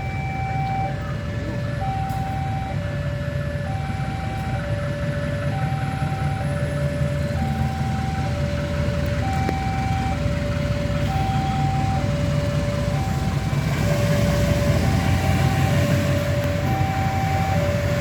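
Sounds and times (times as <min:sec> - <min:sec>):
level-crossing alarm tones: 0:00.0 - 0:18.0
vehicle engines rumbling: 0:00.0 - 0:18.0.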